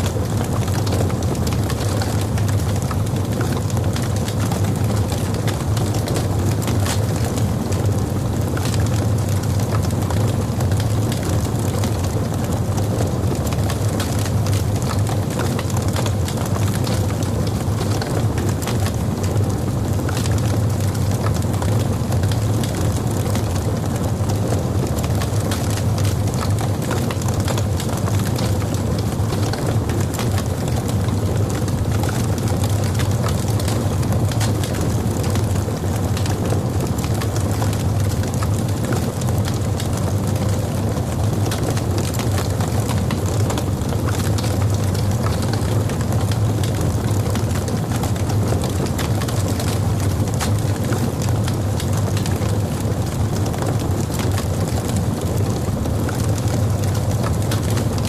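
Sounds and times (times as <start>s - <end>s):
logs crackling in fireplace: 0.0s - 58.0s
low fire rumble: 0.0s - 58.0s.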